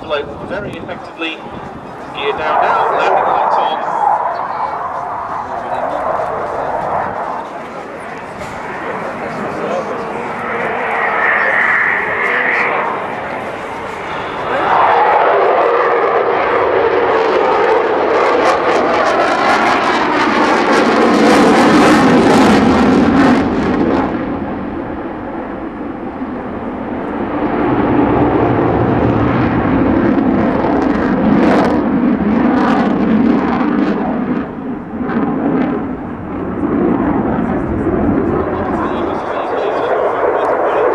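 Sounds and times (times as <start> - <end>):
loud jet noise: 0.0 - 40.9.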